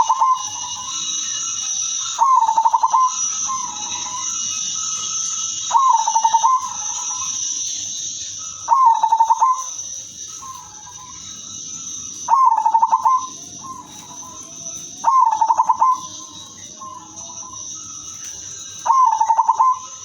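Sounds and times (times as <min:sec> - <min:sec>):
dove cooing: 0:00.0 - 0:20.0
steady high-pitched hiss: 0:00.0 - 0:20.0.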